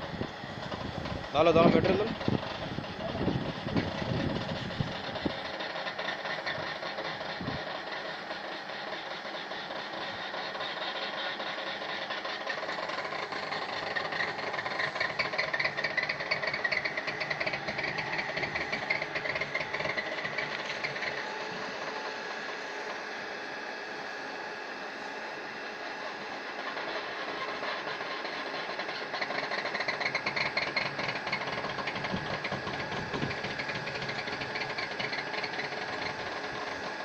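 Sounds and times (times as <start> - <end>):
briquetting machine grinding rattle: 0.0 - 23.1, 25.9 - 37.0.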